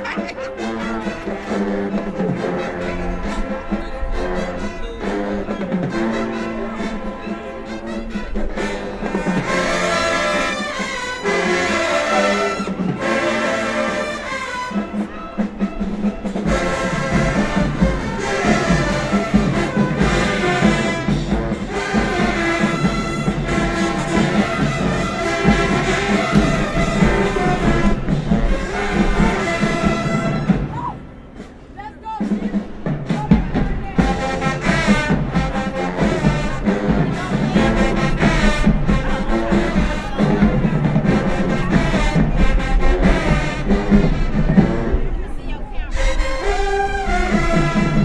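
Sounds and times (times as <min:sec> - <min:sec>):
marching band playing brass tune: 0:00.0 - 0:48.0.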